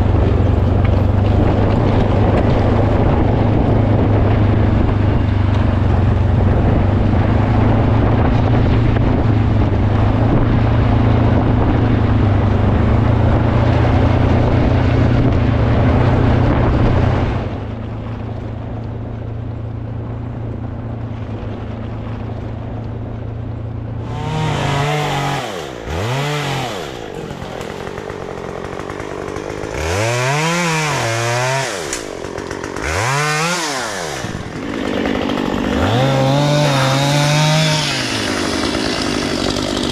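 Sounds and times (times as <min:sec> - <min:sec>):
chainsaw running and revving: 0:00.0 - 0:18.2, 0:23.9 - 0:39.9.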